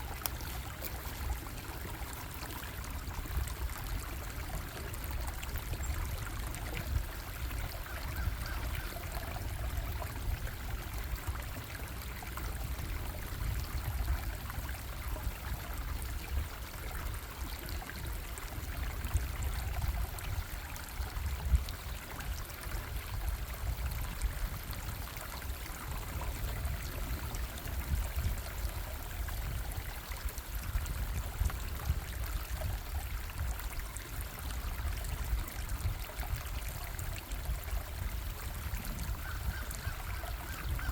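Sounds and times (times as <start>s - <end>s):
bubbling stream: 0.0s - 40.9s.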